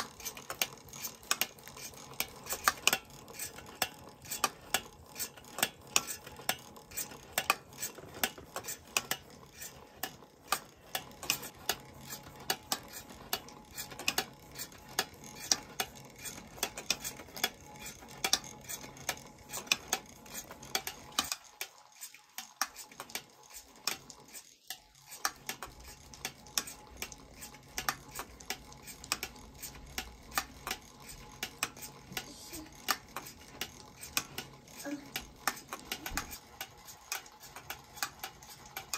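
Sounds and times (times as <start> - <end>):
toy steam engine clinking: 0.0 - 38.9.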